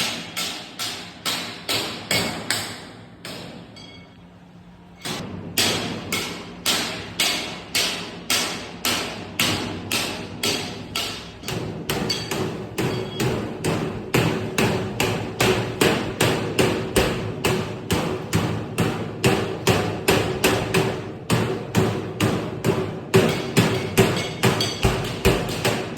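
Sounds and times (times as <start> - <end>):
hammer striking sheet-metal duct: 0.0 - 3.7, 5.1 - 25.9.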